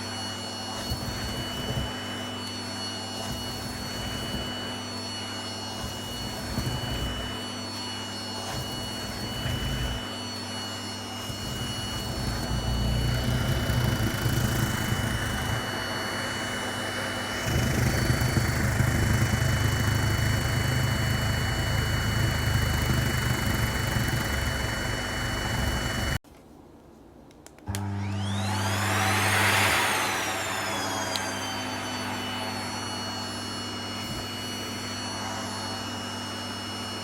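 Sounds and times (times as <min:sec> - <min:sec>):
vacuum cleaner running: 0:00.0 - 0:26.2, 0:27.6 - 0:37.0.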